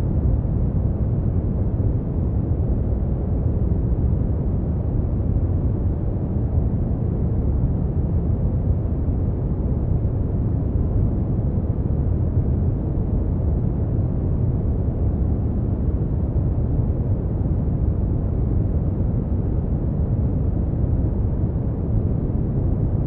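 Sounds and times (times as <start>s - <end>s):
steady brown noise: 0.0s - 23.0s.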